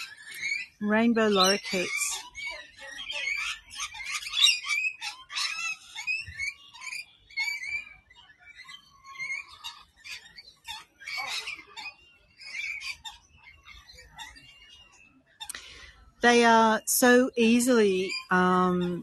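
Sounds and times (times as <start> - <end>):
parrots chattering and screeching: 0.0 - 19.0.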